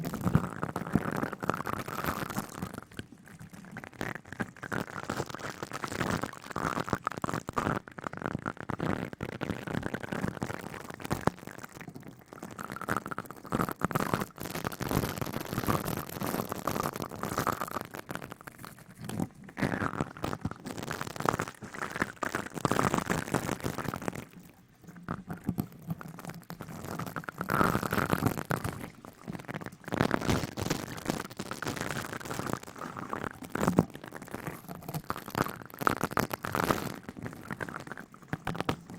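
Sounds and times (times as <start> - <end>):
crackly rustling and scratching: 0.0 - 38.9.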